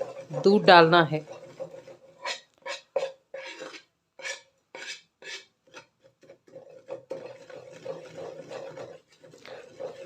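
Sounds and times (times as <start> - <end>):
utensil scraping flour in pan: 0.0 - 10.0.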